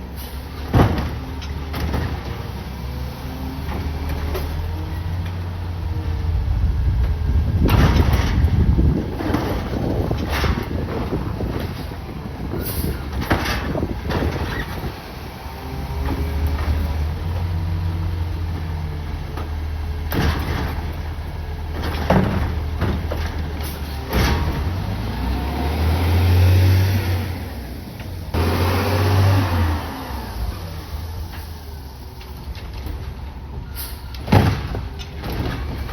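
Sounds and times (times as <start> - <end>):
garbage truck engine droning: 0.0 - 35.9.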